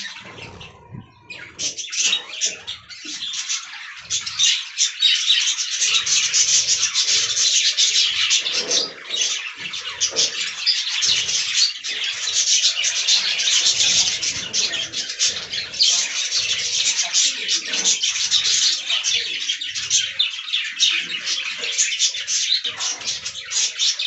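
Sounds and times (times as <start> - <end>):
budgerigars chattering and chirping: 0.0 - 24.0.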